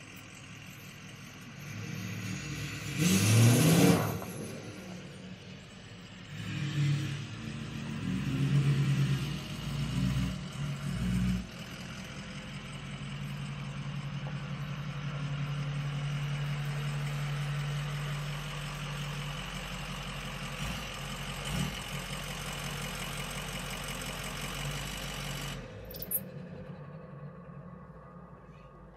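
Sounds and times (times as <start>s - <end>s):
diesel engine revving and idling: 0.0s - 28.9s.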